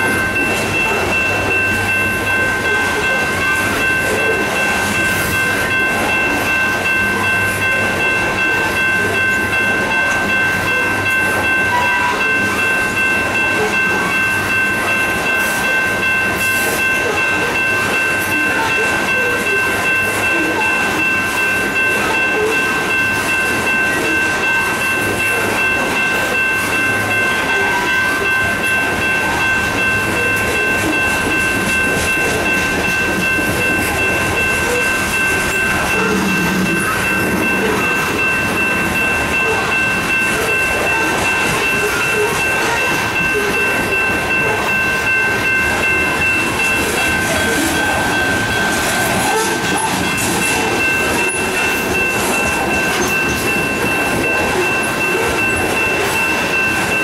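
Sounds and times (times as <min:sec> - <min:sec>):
high steady tones: 0:00.0 - 0:57.0
train wheels rumbling on rails: 0:00.0 - 0:57.0.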